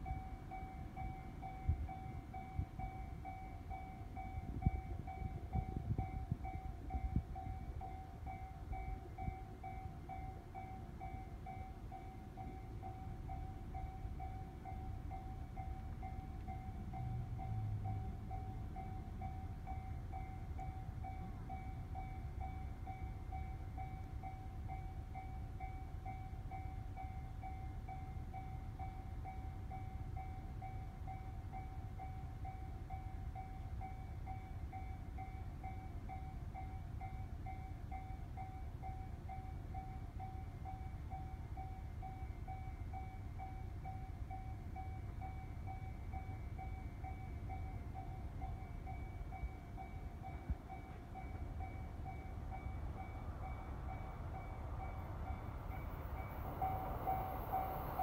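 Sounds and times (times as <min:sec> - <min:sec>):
level crossing alarm bell: 0:00.0 - 0:58.0.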